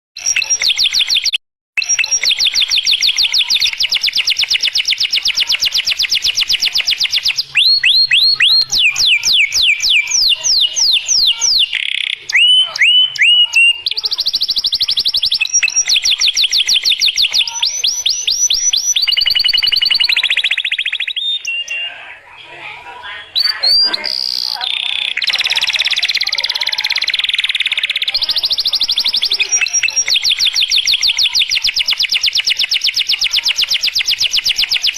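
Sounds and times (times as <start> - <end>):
canary singing trills: 0.2 - 22.4, 23.1 - 34.9.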